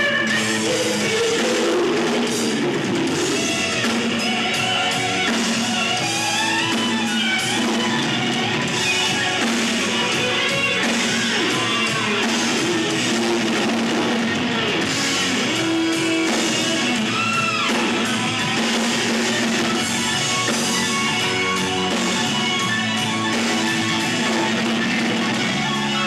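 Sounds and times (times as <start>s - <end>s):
electric guitar: 0.0s - 26.0s
live rock band playing: 0.0s - 26.0s.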